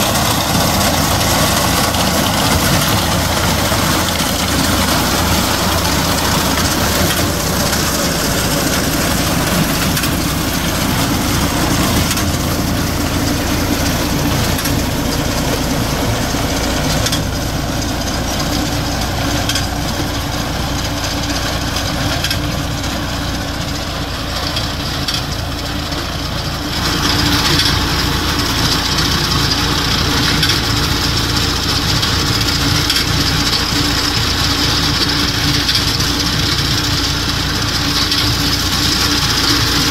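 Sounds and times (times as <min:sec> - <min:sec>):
reaper binder cutting wheat: 0:00.0 - 0:39.9
tractor diesel engine running: 0:00.0 - 0:39.9.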